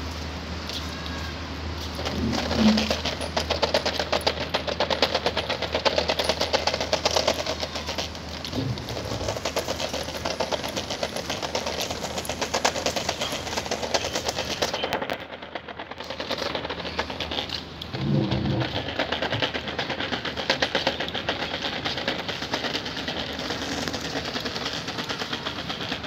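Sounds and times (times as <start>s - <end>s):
scooter wheels rolling over ribbed ramp: 1.7s - 26.0s.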